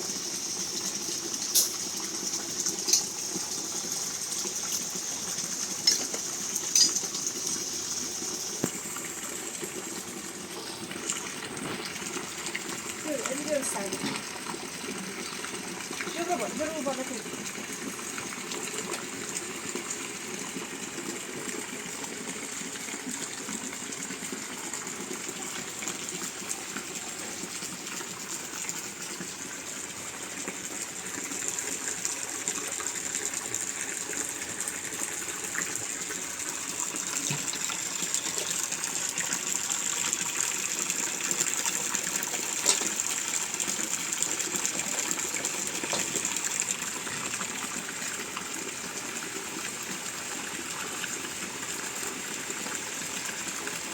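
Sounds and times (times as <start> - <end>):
running water: 0.0 - 53.9.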